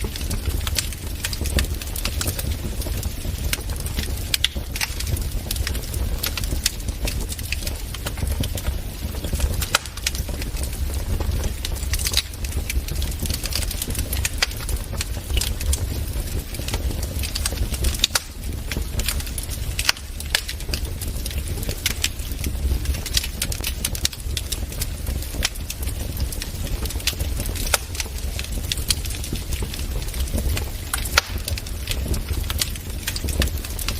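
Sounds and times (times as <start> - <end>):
fire crackling and popping: 0.0 - 33.9
low rumble of fire: 0.0 - 33.9.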